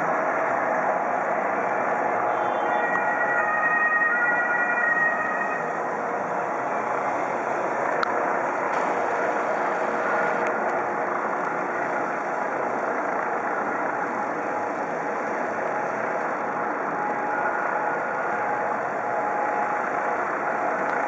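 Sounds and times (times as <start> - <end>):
siren: 0.0 - 21.0.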